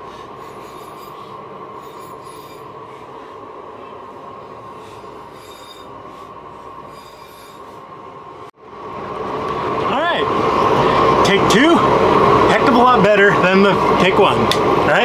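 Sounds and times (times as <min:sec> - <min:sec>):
forge rushing with whine: 0:00.0 - 0:15.0.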